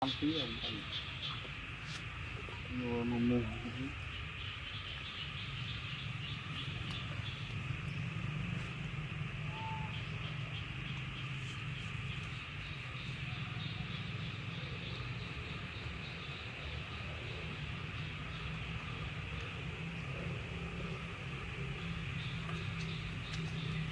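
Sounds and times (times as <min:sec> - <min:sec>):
insect chorus: 0:00.0 - 0:23.9
low steady hum: 0:00.0 - 0:23.9.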